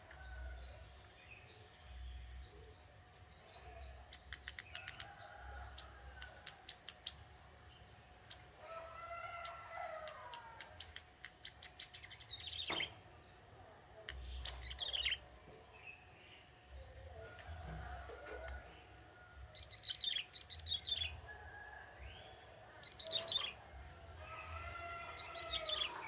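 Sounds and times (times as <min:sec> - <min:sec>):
bird singing ticking notes and trills: 0:00.1 - 0:08.6, 0:09.4 - 0:17.6, 0:18.5 - 0:26.0.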